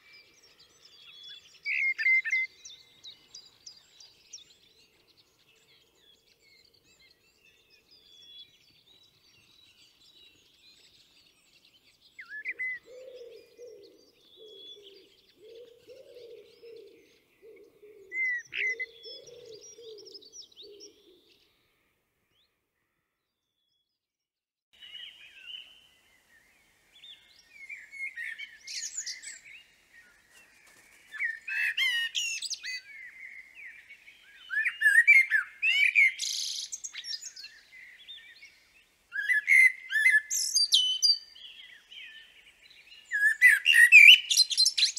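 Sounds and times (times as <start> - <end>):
blackbird singing: 0.0 - 21.6, 24.8 - 44.9.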